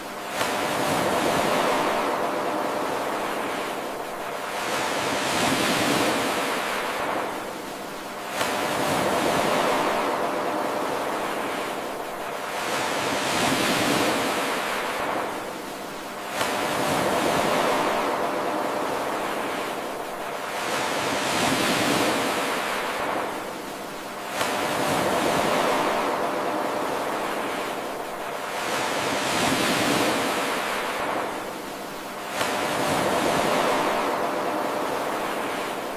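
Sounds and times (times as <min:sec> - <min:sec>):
ocean waves washing on shore: 0:00.0 - 0:35.9.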